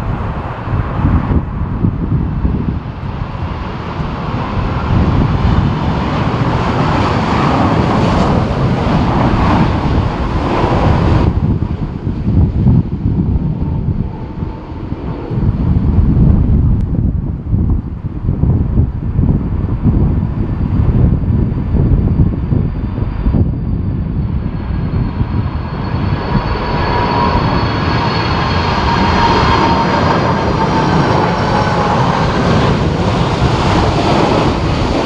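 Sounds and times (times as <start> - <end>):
jet engines passing: 0.0 - 35.0
wind buffeting microphone: 0.0 - 35.0.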